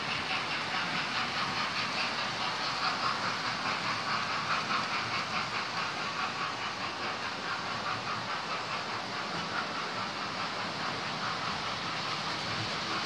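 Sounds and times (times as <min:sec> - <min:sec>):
model trains whirring on rails: 0:00.0 - 0:13.0.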